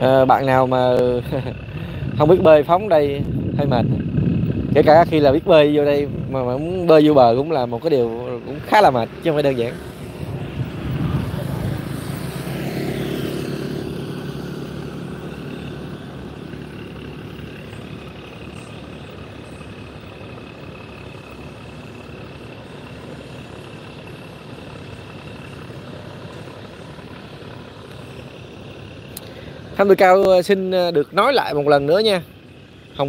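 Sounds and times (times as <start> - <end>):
distant traffic hum: 0.0 - 33.0
heavy vehicle engine: 0.0 - 33.0.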